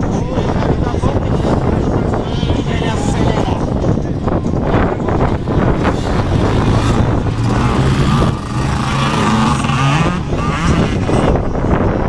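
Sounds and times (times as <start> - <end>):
motorcycle engines revving: 0.0 - 11.8.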